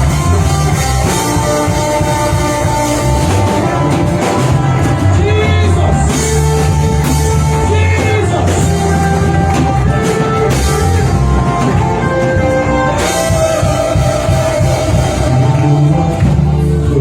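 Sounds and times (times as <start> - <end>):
band playing worship music: 0.0 - 17.0
person singing: 0.0 - 17.0.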